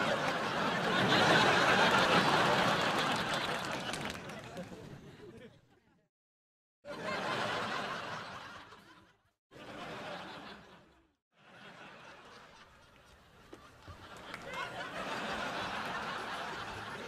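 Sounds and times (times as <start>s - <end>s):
studio audience laughter: 0.0s - 5.7s, 6.9s - 17.0s.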